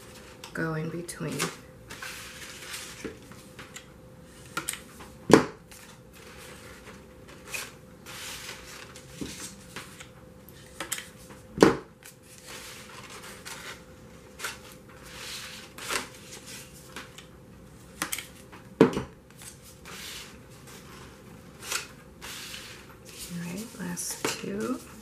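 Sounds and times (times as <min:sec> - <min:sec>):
paper rustling and crinkling: 0:01.3 - 0:03.8, 0:04.4 - 0:11.4, 0:12.0 - 0:18.5, 0:19.3 - 0:25.0.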